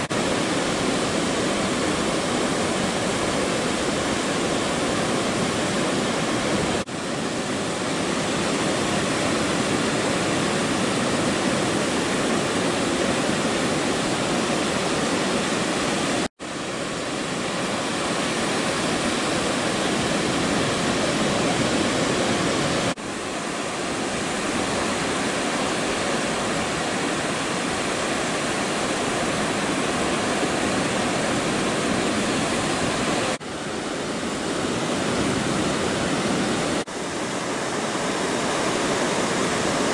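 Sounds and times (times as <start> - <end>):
ocean surf on beach: 0.0 - 39.9.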